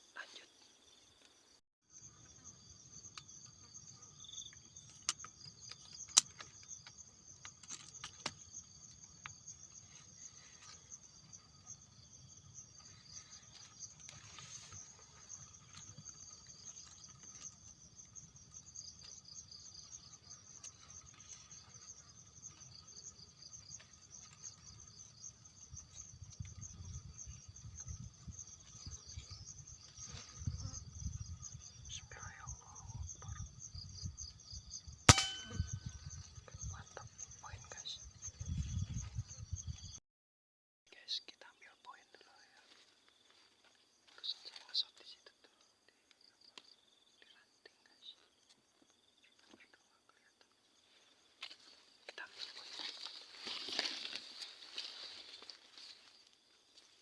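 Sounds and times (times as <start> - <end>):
insects trilling: 0.0 - 40.0, 40.9 - 57.0.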